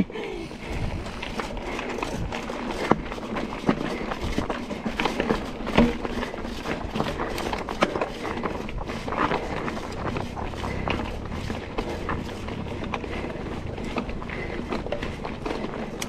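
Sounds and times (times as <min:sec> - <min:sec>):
bike frame rattling and clattering: 0:00.0 - 0:16.0
tyre and wind noise: 0:00.0 - 0:16.0.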